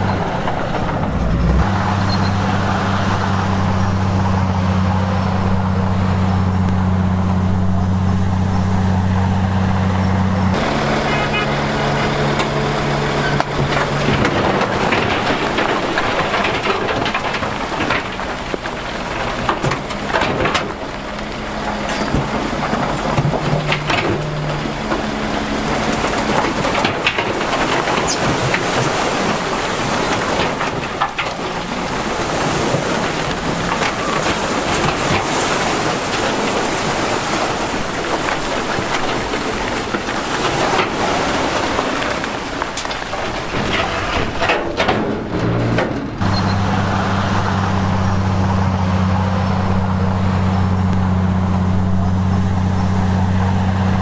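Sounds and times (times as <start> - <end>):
diesel engine running: 0.0 - 54.0
rough rumble with crackles and knocks: 0.0 - 54.0.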